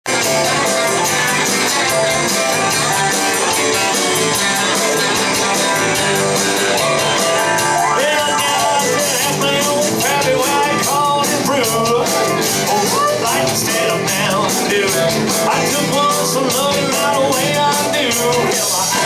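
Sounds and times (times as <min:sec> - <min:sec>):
country band playing: 0:00.1 - 0:19.0
guitar: 0:00.1 - 0:19.0
quick drum beat: 0:00.2 - 0:19.0.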